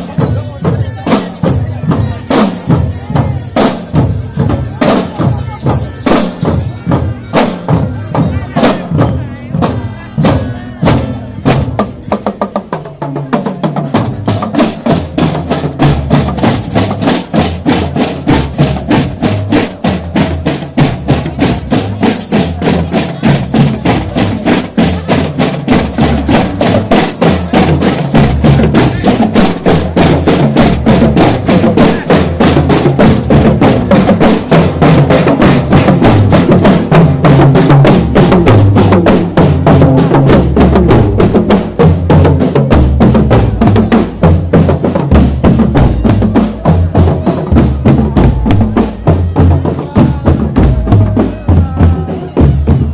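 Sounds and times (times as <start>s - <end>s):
bass drum beats: 0.0s - 52.9s
snare drum strokes and rolls: 0.0s - 52.9s.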